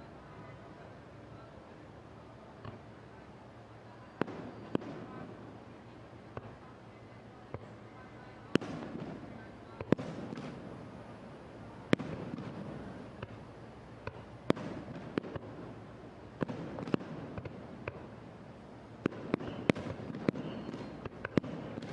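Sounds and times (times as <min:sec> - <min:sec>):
murmur of crowd voices: 0:00.0 - 0:21.9.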